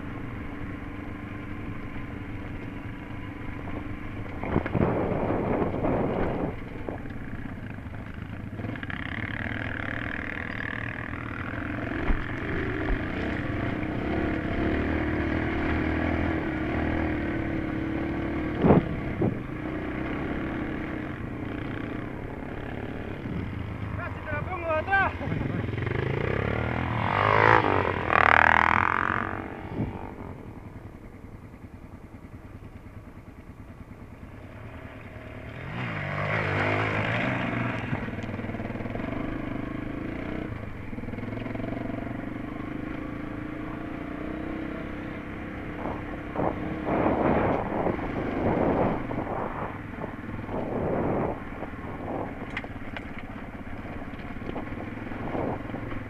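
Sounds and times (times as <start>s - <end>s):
dirt bike revving past: 0.0s - 31.0s, 34.2s - 56.0s
dirt bike engine on trail: 0.0s - 56.0s.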